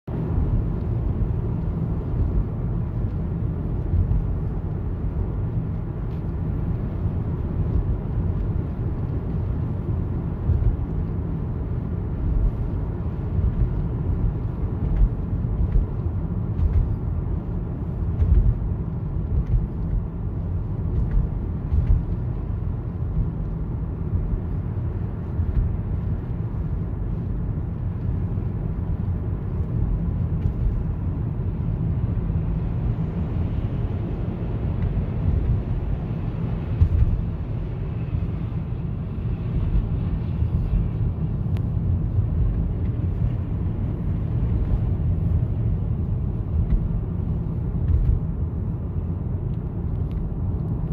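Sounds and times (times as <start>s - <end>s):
car engine and tyres rumbling: 0.0s - 50.9s.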